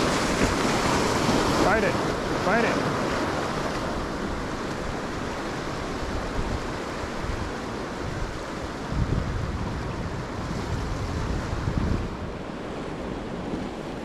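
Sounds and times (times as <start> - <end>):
ocean surf washing on rocks: 0.0 - 14.0
wind buffeting microphone: 0.0 - 14.0.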